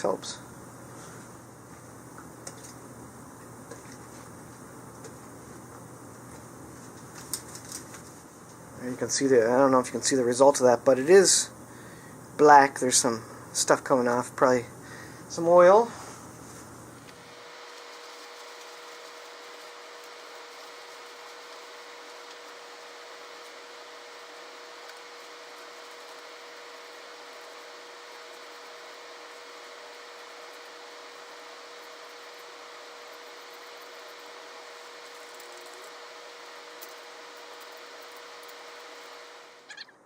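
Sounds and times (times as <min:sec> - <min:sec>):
constant hum tone: 0:00.0 - 0:40.0
steady background hiss: 0:00.0 - 0:40.0.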